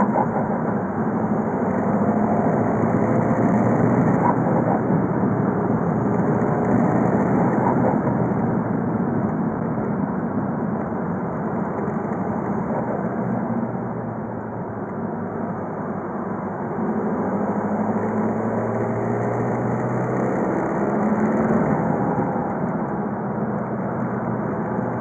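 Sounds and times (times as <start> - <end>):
diesel car engine while driving: 0.0 - 25.0.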